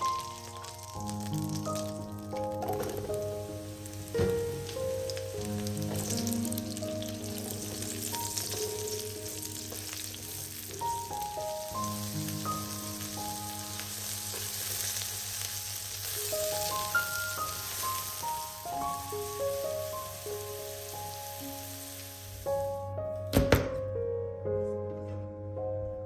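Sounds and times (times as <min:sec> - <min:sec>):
mushrooms sizzling in oil: 0:00.0 - 0:22.8
soft background music: 0:00.0 - 0:26.0.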